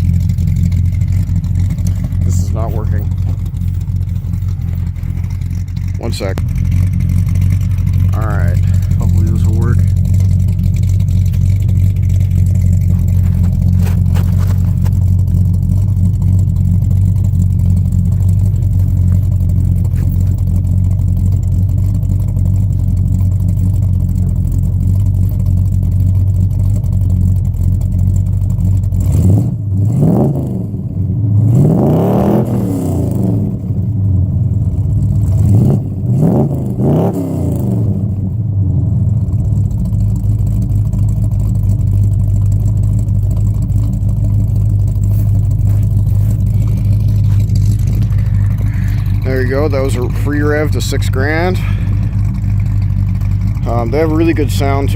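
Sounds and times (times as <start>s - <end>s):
car exhaust idling and revving: 0.0s - 54.9s.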